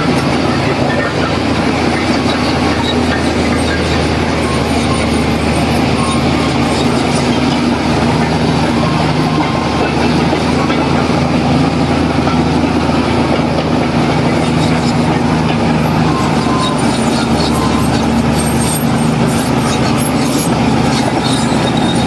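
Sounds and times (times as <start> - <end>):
metallic squeaks and clinks: 0.0 - 11.2, 14.2 - 22.0
heavy diesel engine under load: 0.0 - 22.0.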